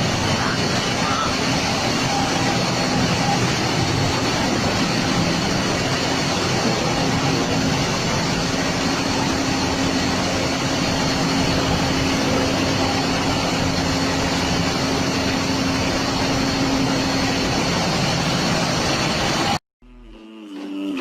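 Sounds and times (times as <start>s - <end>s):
boat engine humming: 0.0s - 19.6s
rough sea: 0.0s - 19.6s.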